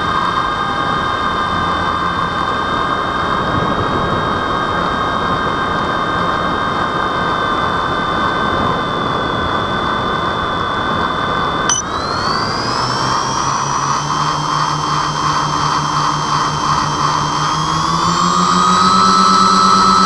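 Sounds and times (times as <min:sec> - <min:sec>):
propeller motors whining: 0:00.0 - 0:20.0.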